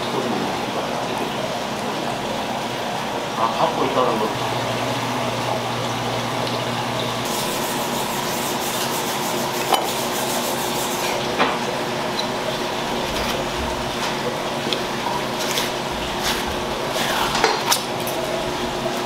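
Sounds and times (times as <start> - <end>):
kitchen background noise: 3.4 - 19.0.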